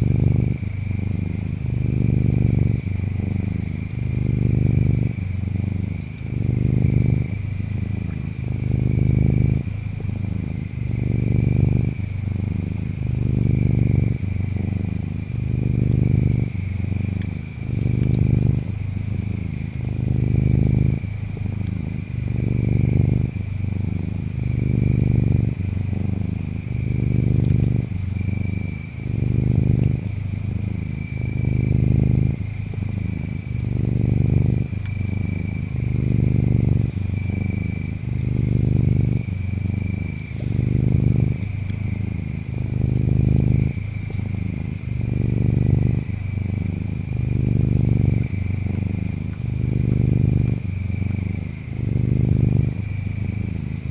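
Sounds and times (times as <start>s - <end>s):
cat purring: 0.0s - 53.9s
high insect trill: 0.0s - 53.9s.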